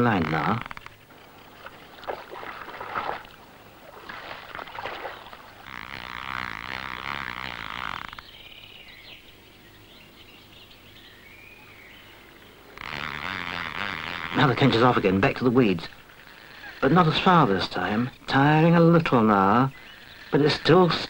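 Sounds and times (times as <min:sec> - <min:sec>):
small birds singing and calling: 0:00.0 - 0:21.0.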